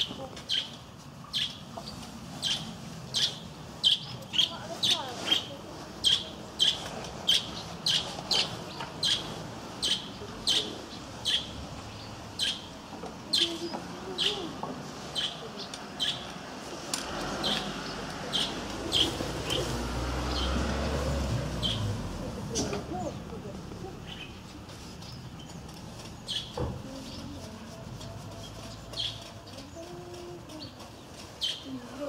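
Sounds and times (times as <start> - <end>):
small bird chirping: 0.0 - 14.5, 15.1 - 16.4, 17.4 - 20.6, 23.9 - 27.6, 28.2 - 31.8.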